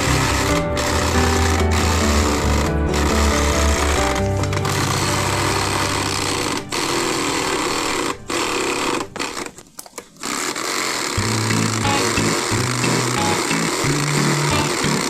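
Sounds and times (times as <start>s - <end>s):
electric jigsaw buzzing: 0.0s - 15.0s.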